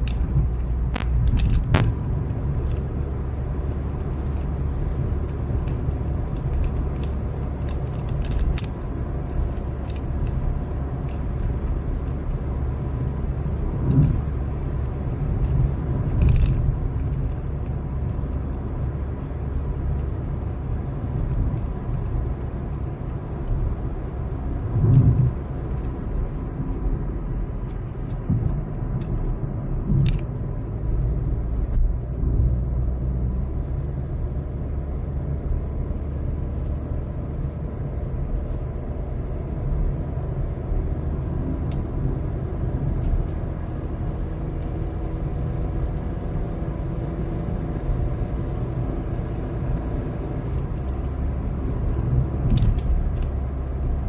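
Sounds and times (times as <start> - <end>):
light clicking rattles: 0.0 - 32.7, 41.1 - 54.0
car engine and tyre rumble: 0.0 - 54.0.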